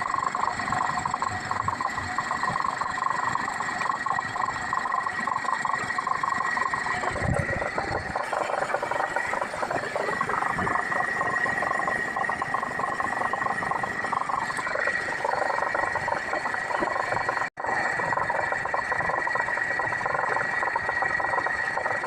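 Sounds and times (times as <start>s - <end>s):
wheel loader engine whine: 0.0s - 22.0s.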